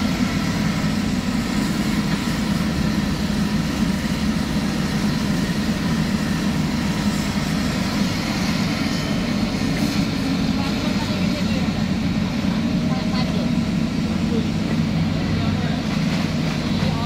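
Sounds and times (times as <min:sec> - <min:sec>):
excavator engine drone: 0:00.0 - 0:17.0.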